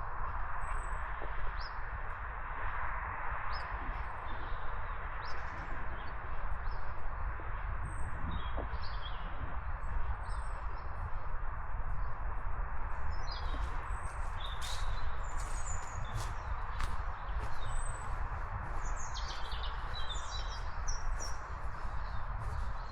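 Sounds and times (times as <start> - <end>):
small birds chirping: 3.5 - 11.3, 11.9 - 22.9.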